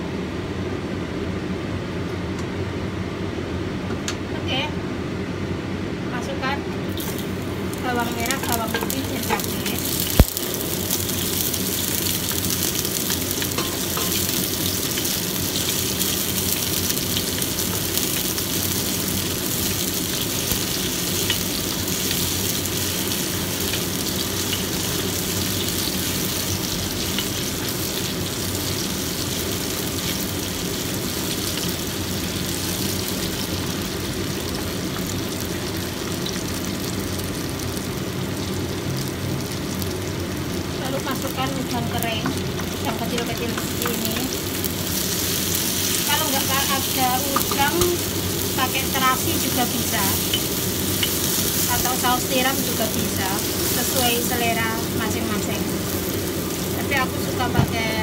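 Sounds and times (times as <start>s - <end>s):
food sizzling in hot oil: 6.9s - 58.0s.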